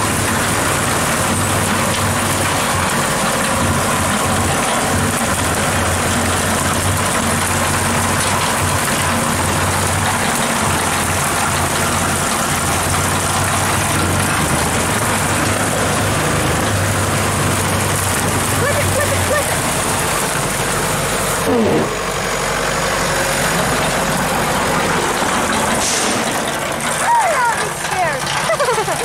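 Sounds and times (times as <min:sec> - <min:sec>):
tractor engines droning: 0:00.0 - 0:29.0.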